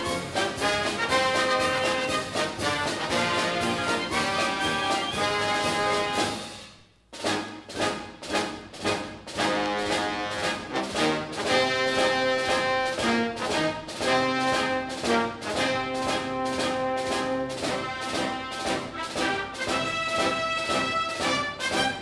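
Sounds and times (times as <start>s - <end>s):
orchestral music led by brass: 0.0s - 22.0s.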